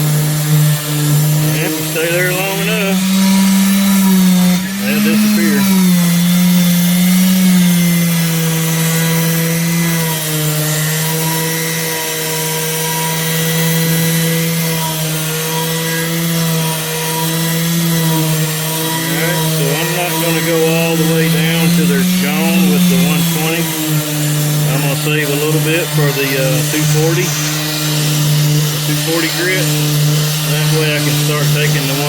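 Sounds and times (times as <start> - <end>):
electric sander on metal: 0.0 - 32.0.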